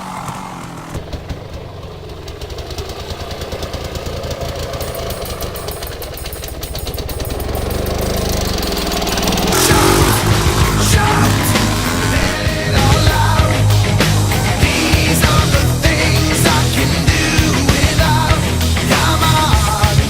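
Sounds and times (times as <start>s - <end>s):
dirt bike engine puttering: 0.0s - 20.0s.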